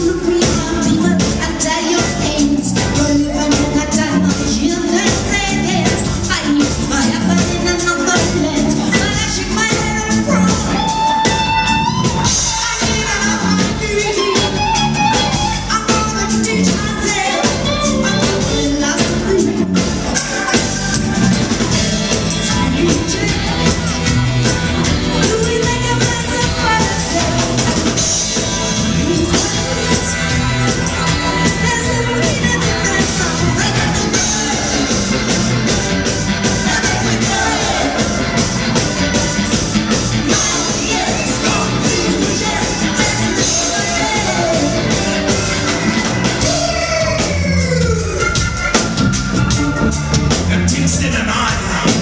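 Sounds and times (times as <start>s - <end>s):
person singing: 0.0s - 48.9s
ska band playing: 0.0s - 52.0s.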